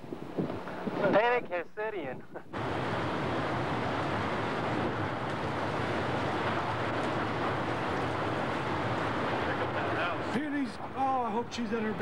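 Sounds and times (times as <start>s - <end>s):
wind buffeting microphone: 0.0s - 1.2s, 2.3s - 12.0s.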